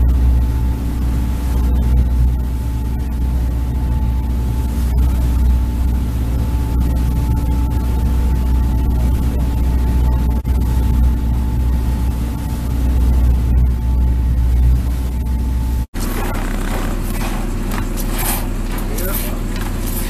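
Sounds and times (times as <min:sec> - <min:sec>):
boat engine humming: 0:00.0 - 0:20.0
faint engine whine: 0:00.0 - 0:20.0.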